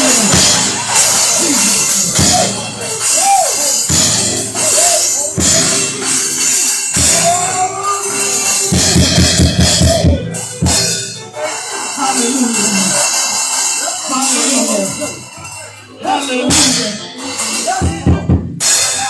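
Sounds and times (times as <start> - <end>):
drum kit playing: 0.0 - 19.0
voices singing: 0.0 - 19.0.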